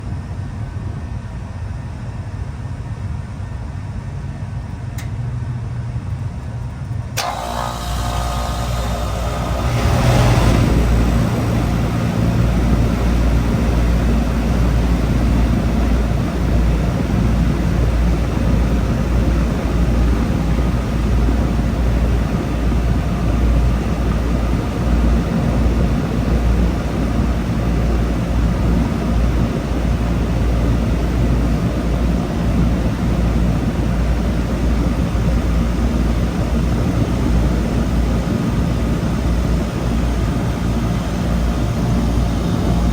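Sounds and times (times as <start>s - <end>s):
fan air rushing: 0.0s - 42.9s
compressor humming: 6.1s - 42.9s.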